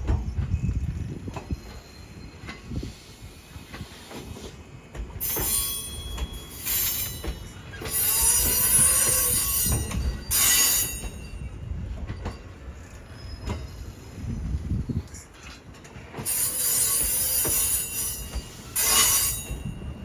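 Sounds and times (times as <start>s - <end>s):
train wheels squealing: 0.0s - 4.6s, 5.2s - 20.0s
rolling train rumble: 0.0s - 20.0s.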